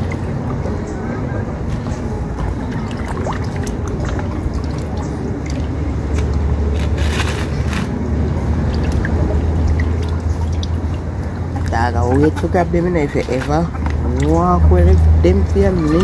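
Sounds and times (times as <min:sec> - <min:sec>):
steady low rumble: 0:00.0 - 0:15.9
hands sloshing water in a basin: 0:00.0 - 0:16.0.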